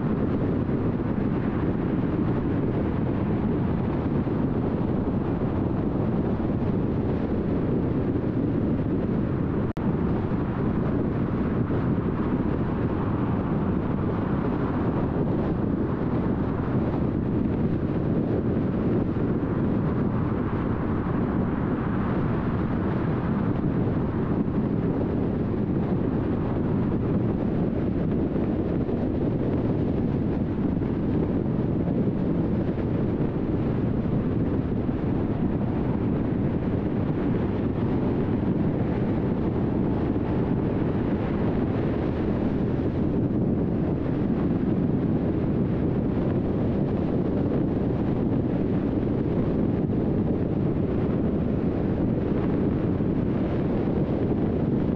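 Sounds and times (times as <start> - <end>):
wind rush: 0.0 - 54.9.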